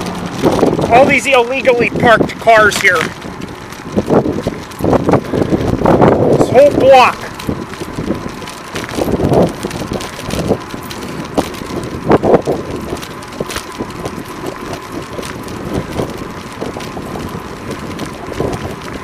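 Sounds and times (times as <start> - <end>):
road noise: 0.0 - 19.0
wind noise on microphone: 0.0 - 19.0.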